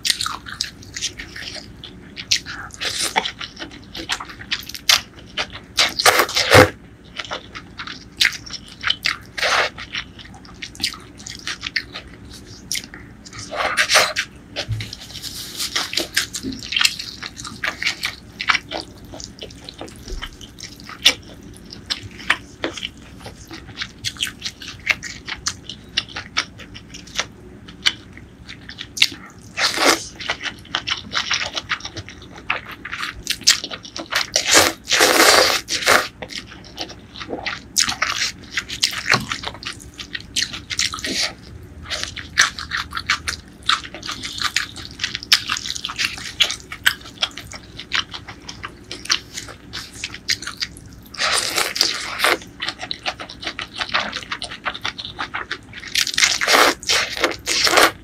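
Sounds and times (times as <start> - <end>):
wet chewing and smacking: 0.0 - 58.0.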